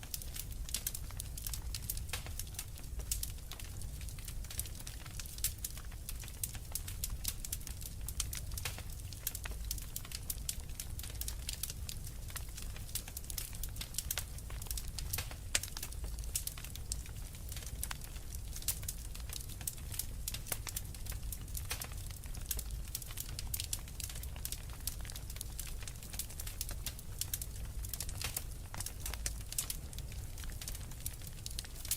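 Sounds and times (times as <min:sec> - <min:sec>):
low fire rumble: 0:00.0 - 0:31.9
wood fire snaps and pops: 0:00.0 - 0:31.9.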